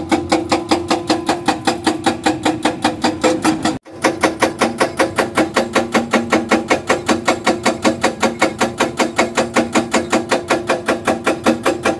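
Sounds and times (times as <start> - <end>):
hydraulic rock breaker hammering: 0.0 - 11.9.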